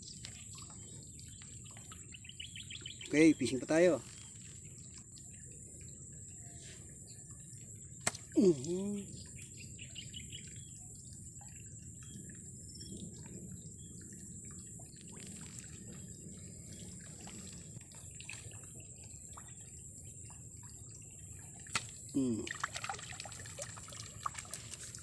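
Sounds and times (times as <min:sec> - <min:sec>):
small ticks and drips: 0:00.0 - 0:25.0
water trickling: 0:00.0 - 0:25.0.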